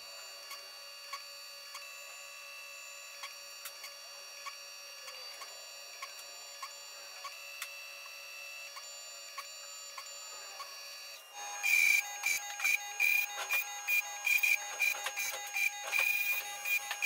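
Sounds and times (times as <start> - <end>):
machine motors whining: 0.1 - 17.0.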